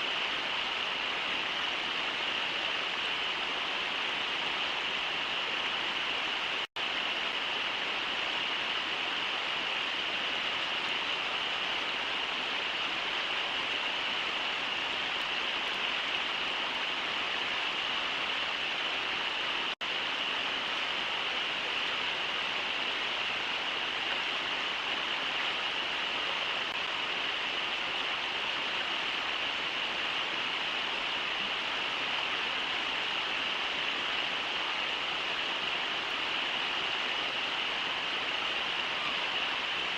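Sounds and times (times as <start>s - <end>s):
river rushing over riffles: 0.0s - 39.9s.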